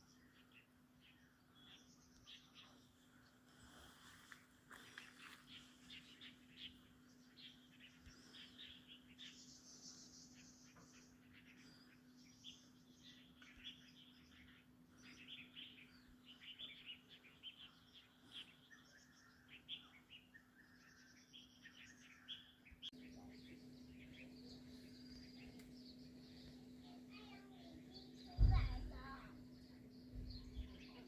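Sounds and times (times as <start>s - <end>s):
faint bird chirps: 0.0s - 31.0s
steady low hum: 0.0s - 31.0s.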